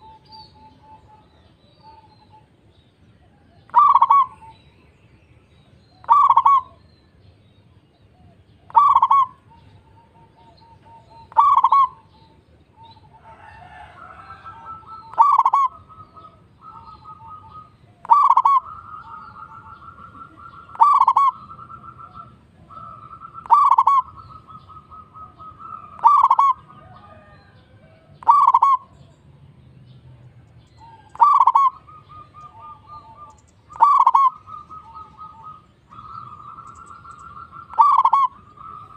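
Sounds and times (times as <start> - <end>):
doves cooing: 3.2 - 4.6, 6.0 - 6.8, 8.1 - 29.1, 30.6 - 38.9.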